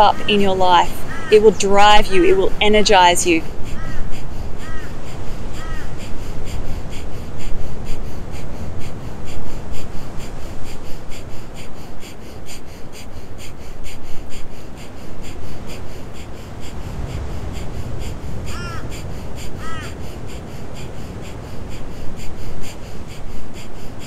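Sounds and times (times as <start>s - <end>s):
rapid forceful nasal exhales: 3.4s - 24.0s.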